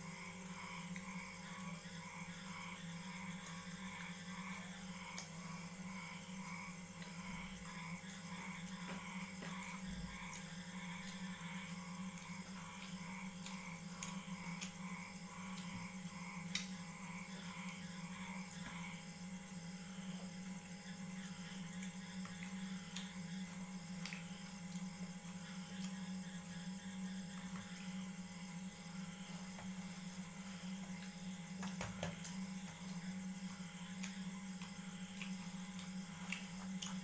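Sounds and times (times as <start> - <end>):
steady low hum: 0.0 - 37.0
eating sounds: 0.1 - 37.0.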